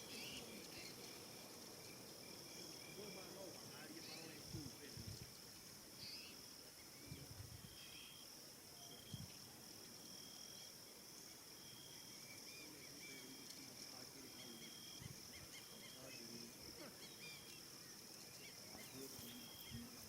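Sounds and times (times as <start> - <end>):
insect buzz: 0.0 - 20.0
insect trills: 0.0 - 20.0.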